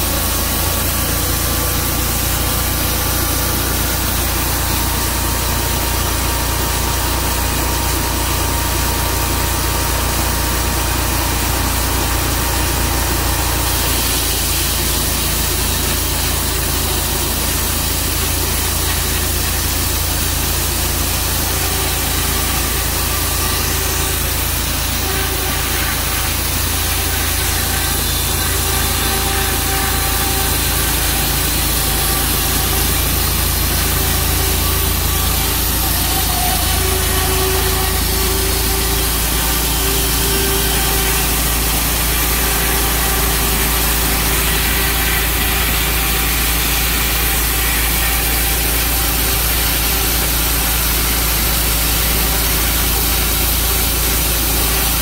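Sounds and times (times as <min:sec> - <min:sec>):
sawmill engine droning: 0:00.0 - 0:55.0.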